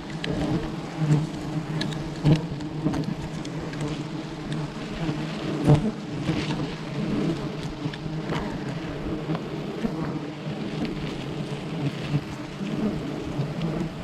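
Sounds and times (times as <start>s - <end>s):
bees buzzing in a swarm: 0.0s - 14.0s.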